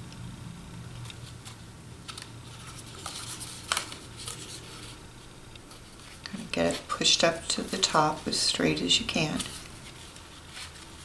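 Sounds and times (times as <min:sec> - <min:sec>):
low steady hum: 0:00.0 - 0:11.0
paper rustling and crinkling: 0:00.9 - 0:05.0, 0:05.6 - 0:11.0.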